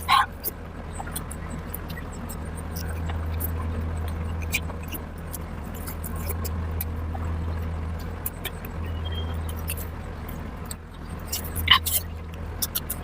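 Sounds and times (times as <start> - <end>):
steady low hum: 0.0 - 13.0
wet chewing and mouth clicks: 0.0 - 13.0.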